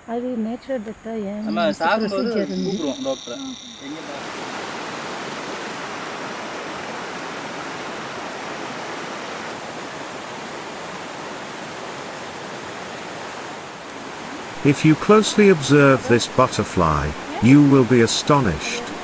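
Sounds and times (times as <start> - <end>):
flowing water rushing: 1.9 - 19.0.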